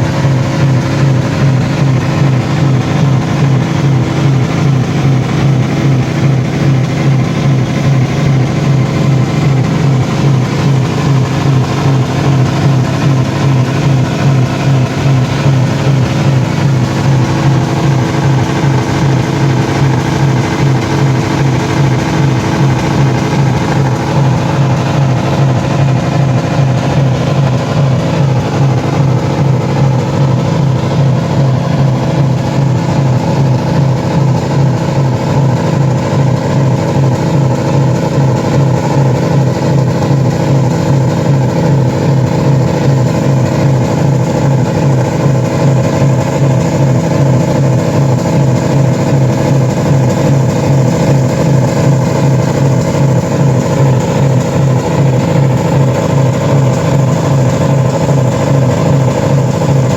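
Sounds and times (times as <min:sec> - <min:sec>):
car engines running flat out: 0:00.0 - 0:59.9.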